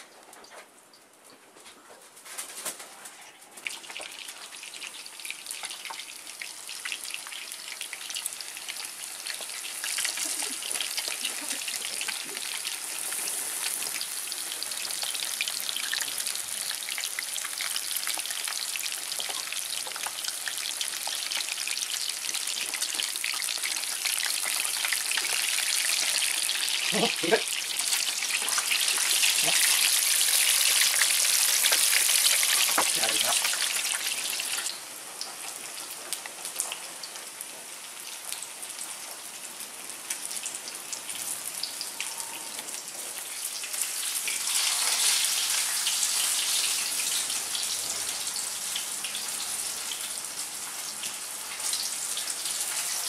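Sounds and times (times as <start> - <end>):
fish fillets frying in oil: 3.6 - 53.0.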